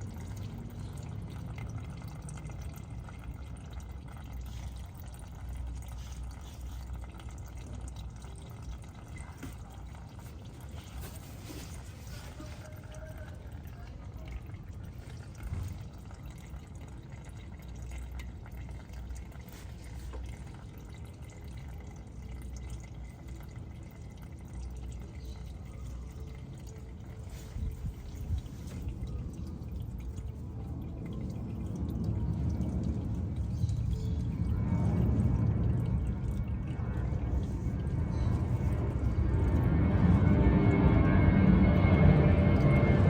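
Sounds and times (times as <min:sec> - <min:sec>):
low steady rumble: 0:00.0 - 0:43.0
oil trickling and dripping: 0:00.0 - 0:43.0.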